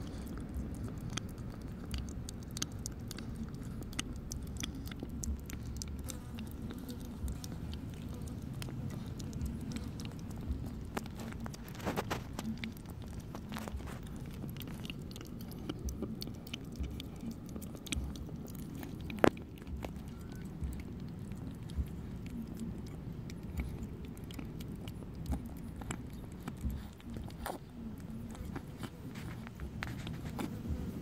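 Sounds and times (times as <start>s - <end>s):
cat chewing food: 0.0s - 31.0s.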